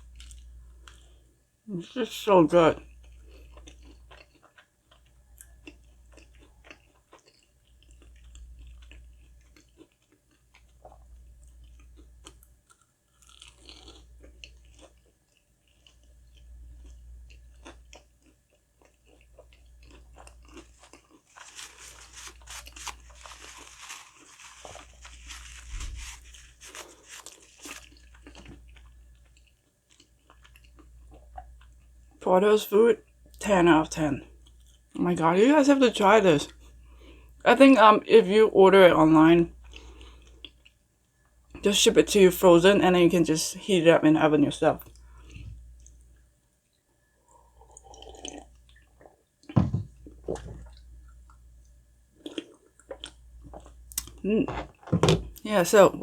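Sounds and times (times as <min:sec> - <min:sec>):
chewing crispy fried food: 0:00.0 - 0:32.3, 0:33.0 - 0:35.0, 0:39.4 - 0:41.8, 0:44.8 - 0:55.5.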